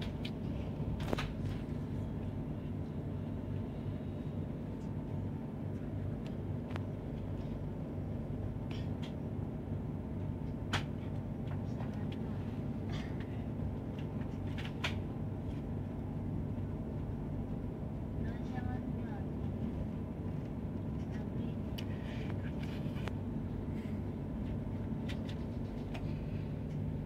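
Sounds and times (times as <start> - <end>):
train car hum and rumble: 0.0 - 27.0.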